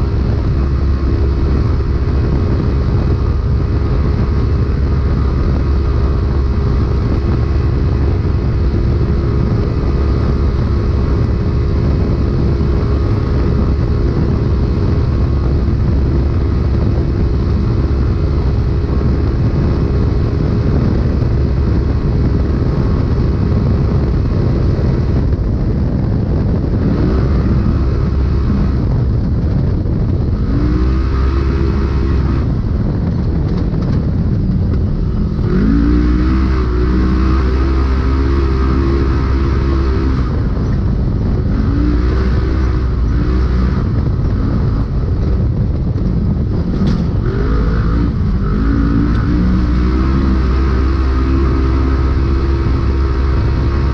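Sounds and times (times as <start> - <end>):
engine running at high pitch: 0.0 - 53.9
wind and road noise: 0.0 - 53.9.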